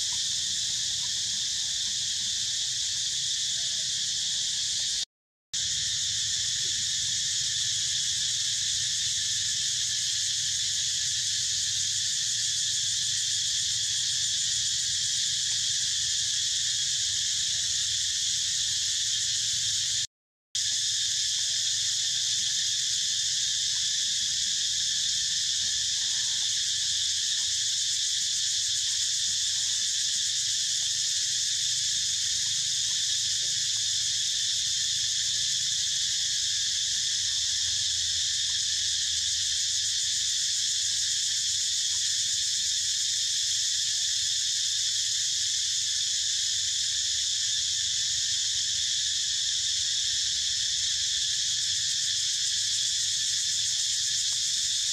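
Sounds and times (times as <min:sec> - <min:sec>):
insects chorus shrilling: 0:00.0 - 0:05.0, 0:05.6 - 0:54.9.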